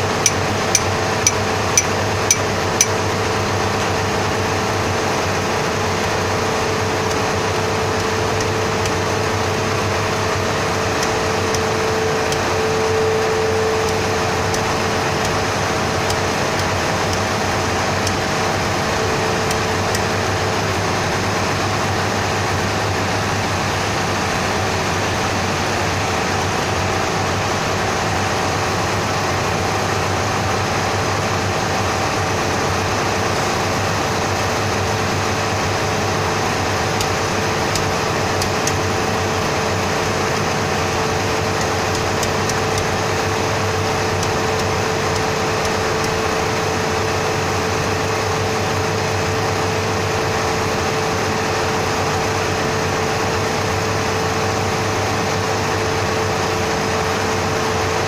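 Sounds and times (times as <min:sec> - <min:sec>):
machinery droning: 0:00.0 - 0:58.0.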